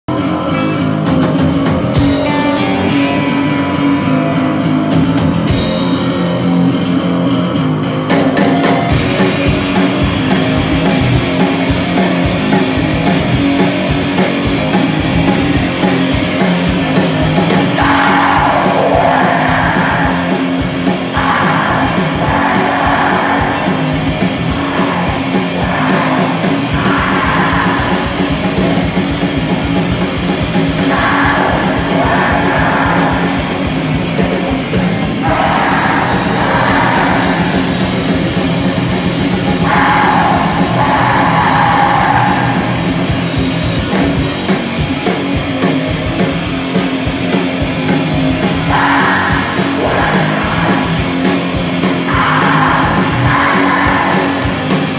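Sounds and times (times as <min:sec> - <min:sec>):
rock band playing live: 0:00.1 - 0:54.9.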